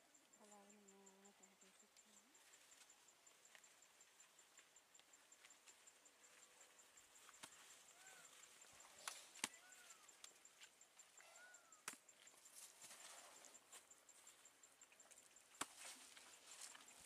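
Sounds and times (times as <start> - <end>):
faint chirps: 0.0 - 17.0.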